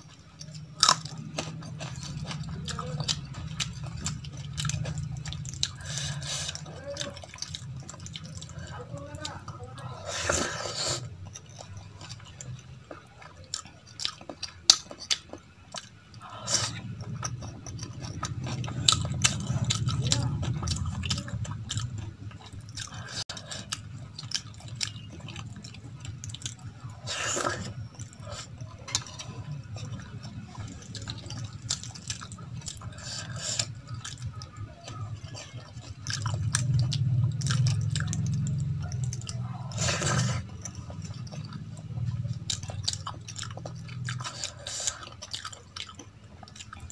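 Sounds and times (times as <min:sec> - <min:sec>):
wet chewing with mouth clicks: 0:00.0 - 0:46.9.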